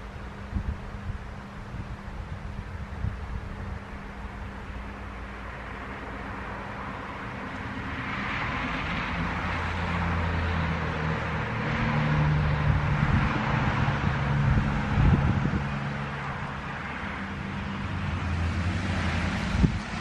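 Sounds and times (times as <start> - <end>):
vehicle engine hum passing: 0.0 - 20.0
wind rustling leaves: 0.0 - 20.0.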